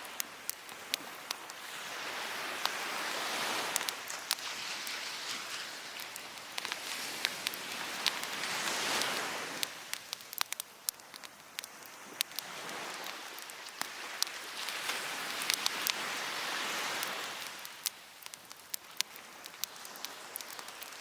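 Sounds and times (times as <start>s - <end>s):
wood fire crackling and popping: 0.0s - 1.9s, 3.4s - 21.0s
waves washing onto beach: 0.0s - 21.0s.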